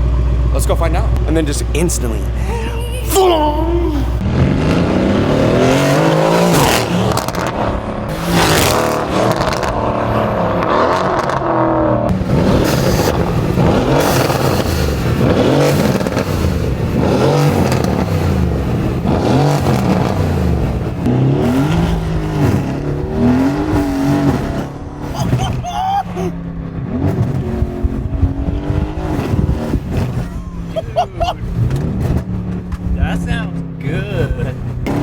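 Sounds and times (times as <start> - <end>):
car engine accelerating hard: 3.9 - 35.0
exhaust cracks: 4.2 - 35.0.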